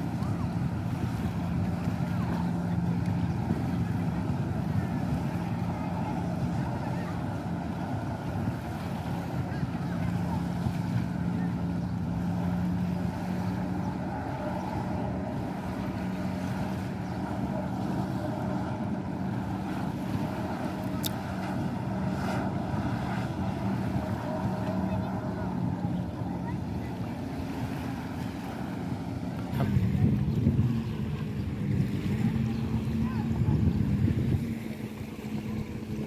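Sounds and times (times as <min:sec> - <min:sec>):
jet ski engine running: 0:00.0 - 0:36.0
water noise: 0:00.0 - 0:36.0
wind: 0:00.0 - 0:36.0.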